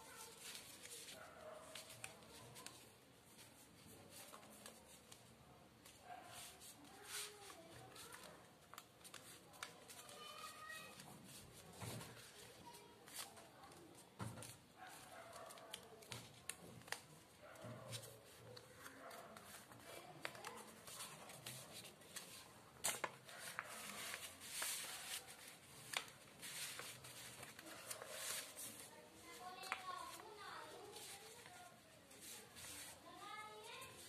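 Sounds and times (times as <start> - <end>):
paper rustling and crinkling: 0.0 - 34.0.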